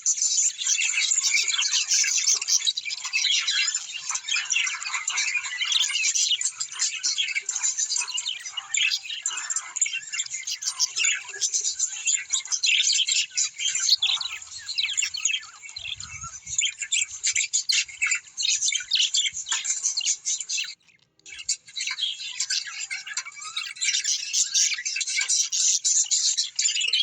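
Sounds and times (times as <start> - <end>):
parrots chattering: 0.3 - 27.0.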